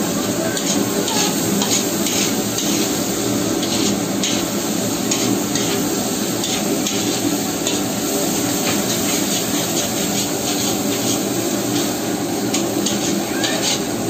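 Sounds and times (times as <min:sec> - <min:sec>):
food sizzling: 0:00.0 - 0:14.0
gas burner roar: 0:00.0 - 0:14.0
metal spatula scraping a pan: 0:00.6 - 0:07.9, 0:08.6 - 0:14.0.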